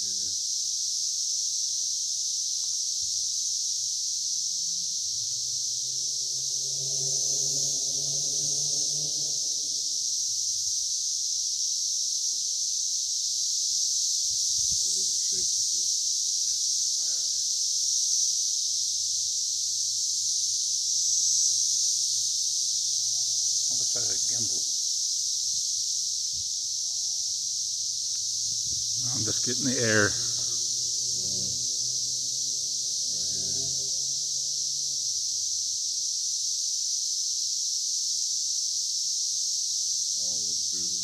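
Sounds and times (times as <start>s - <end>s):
cicadas droning: 0.0s - 41.0s.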